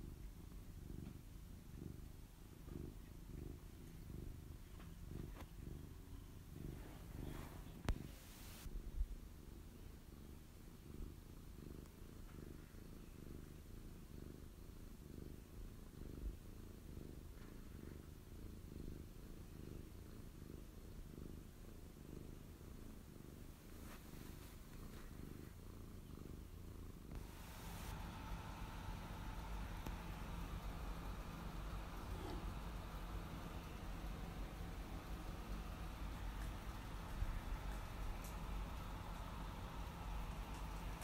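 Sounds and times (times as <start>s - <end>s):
cat purring: 0.0s - 41.0s.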